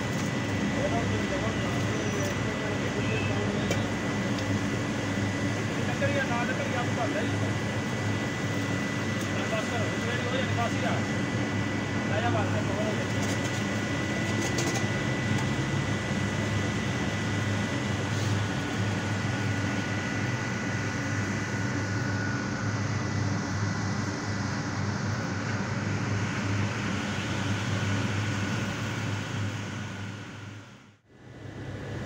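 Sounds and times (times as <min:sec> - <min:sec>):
truck engine drone: 0:00.0 - 0:32.0
vacuum pump whine: 0:00.0 - 0:32.0.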